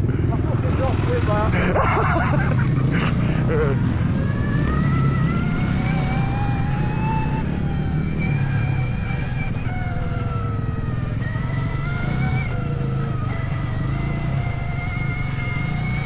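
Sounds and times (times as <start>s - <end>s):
electric motorbike motor whining: 0.0s - 16.0s.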